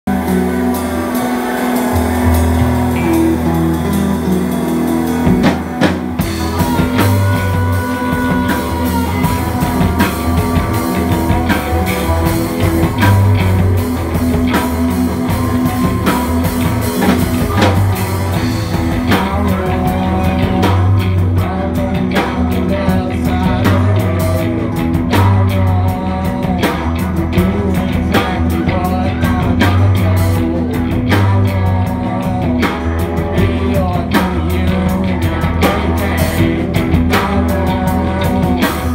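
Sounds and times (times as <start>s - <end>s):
drum kit beat: 0.0s - 38.9s
electric bass: 0.0s - 38.9s
electric guitar: 0.0s - 38.9s.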